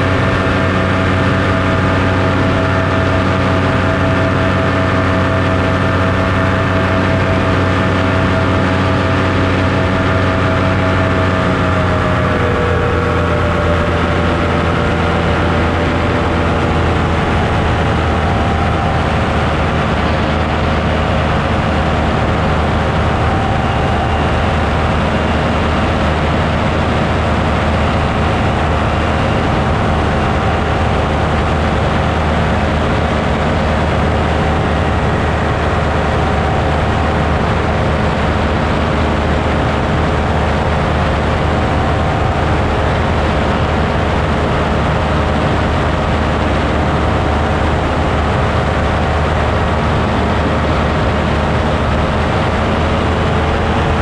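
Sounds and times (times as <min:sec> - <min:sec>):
aircraft motor and propeller: 0:00.0 - 0:54.0.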